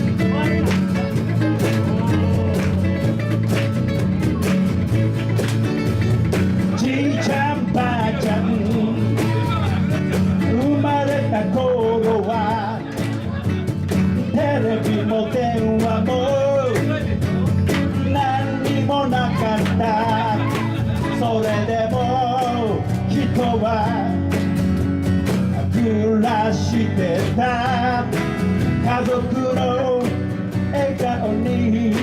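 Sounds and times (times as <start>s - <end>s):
guitar: 0.0s - 32.0s
live band music: 0.0s - 32.0s.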